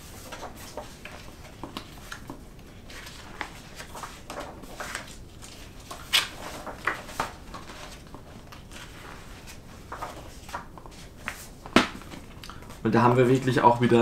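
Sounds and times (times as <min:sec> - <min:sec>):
pages turning: 0:00.0 - 0:14.0.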